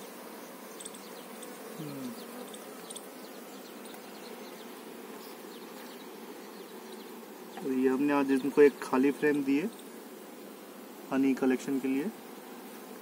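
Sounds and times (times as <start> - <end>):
bees buzzing: 0.0 - 13.0
single bee buzz falling in pitch: 0.0 - 13.0.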